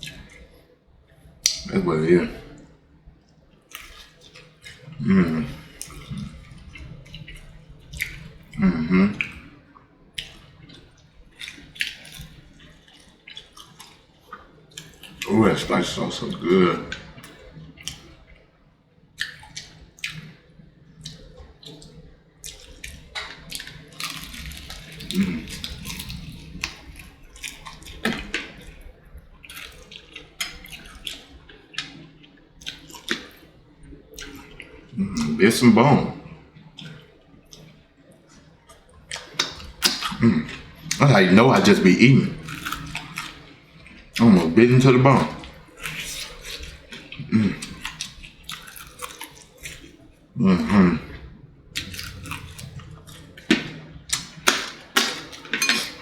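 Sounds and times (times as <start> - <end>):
wet chewing: 3.7 - 18.4, 19.2 - 56.0.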